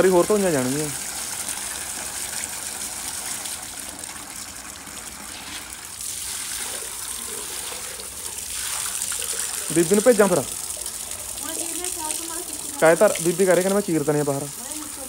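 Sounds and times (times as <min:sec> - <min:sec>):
running water gushing: 0:00.0 - 0:15.0.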